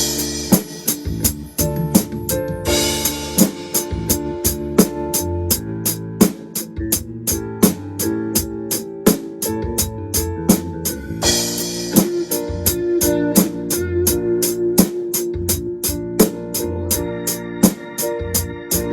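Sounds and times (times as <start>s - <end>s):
backing track keyboard and guitar: 0.0s - 18.9s
hi-hat strokes: 0.0s - 18.9s
snare and kick drum: 0.0s - 18.9s.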